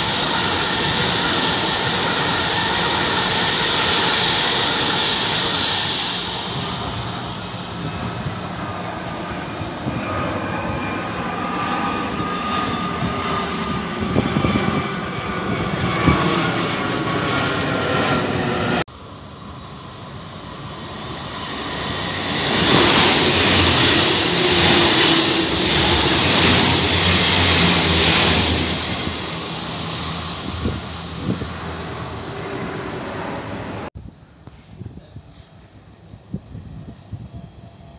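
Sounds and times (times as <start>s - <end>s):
electric train rolling in: 0.0s - 12.6s, 15.7s - 33.9s
high-speed train rushing away: 0.0s - 34.0s.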